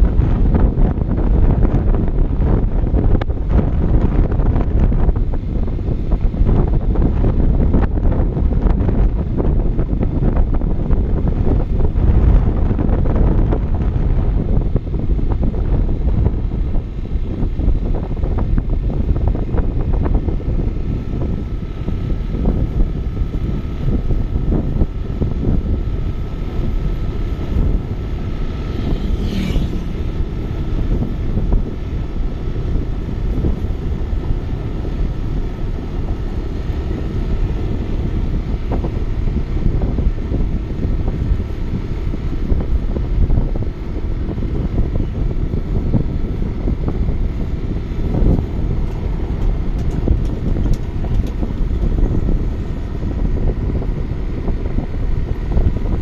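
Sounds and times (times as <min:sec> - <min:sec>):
vehicle rumble: 0:00.0 - 0:56.0
wind buffeting microphone: 0:00.0 - 0:56.0.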